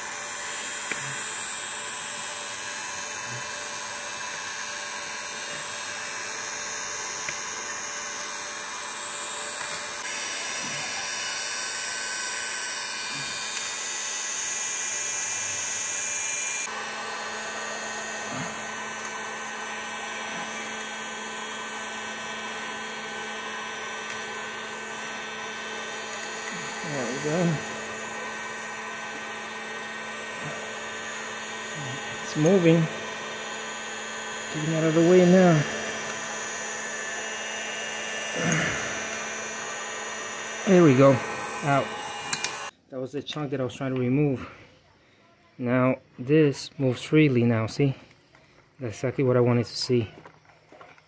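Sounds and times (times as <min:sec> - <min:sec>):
heat gun running: 0:00.0 - 0:42.7.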